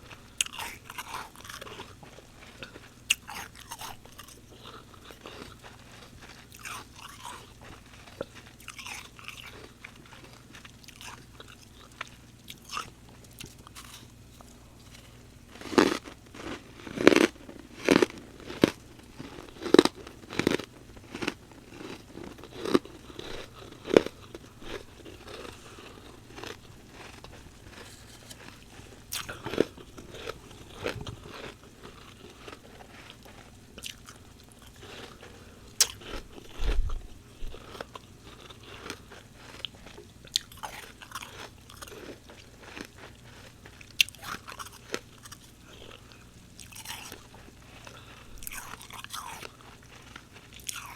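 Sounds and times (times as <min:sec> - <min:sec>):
crunchy chewing of frost: 0:00.0 - 0:50.9.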